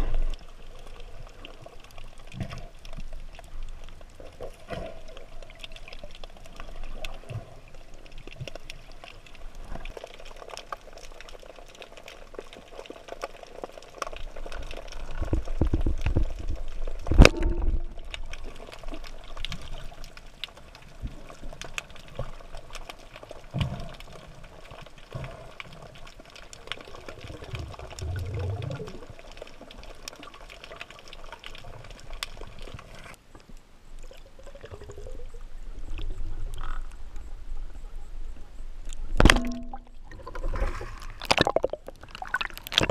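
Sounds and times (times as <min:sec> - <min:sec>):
low water rumbles: 0:00.0 - 0:10.3, 0:11.2 - 0:42.9
faint crackling clicks: 0:00.0 - 0:42.9
underwater water noise: 0:00.0 - 0:42.9.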